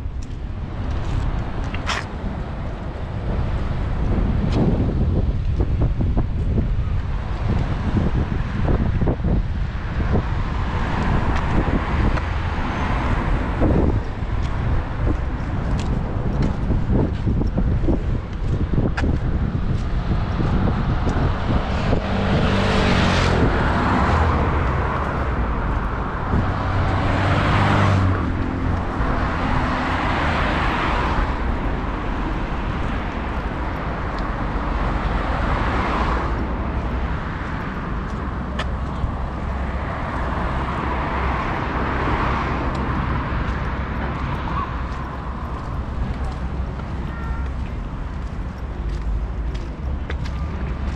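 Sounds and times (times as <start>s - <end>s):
cars passing: 0.0s - 50.9s
steady traffic hum: 0.0s - 50.9s.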